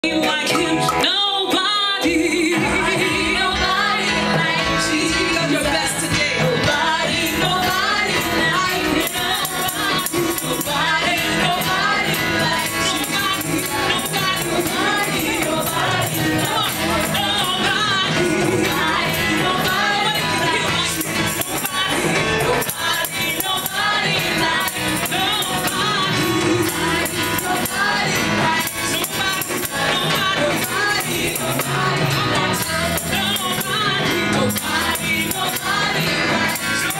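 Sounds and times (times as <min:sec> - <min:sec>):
backing singers: 0:00.0 - 0:36.9
drums and rhythmic percussion: 0:00.0 - 0:36.9
keyboard: 0:00.0 - 0:36.9
woman singing lead: 0:00.0 - 0:36.9.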